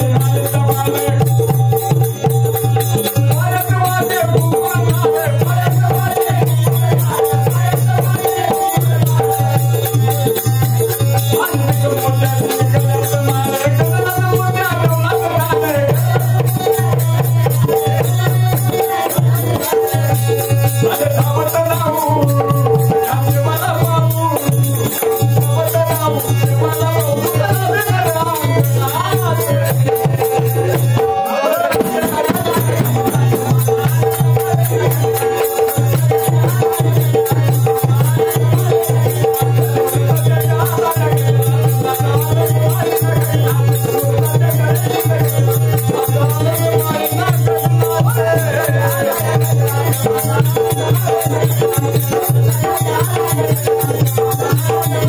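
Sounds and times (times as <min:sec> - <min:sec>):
fast rattling percussion: 0:00.0 - 0:55.0.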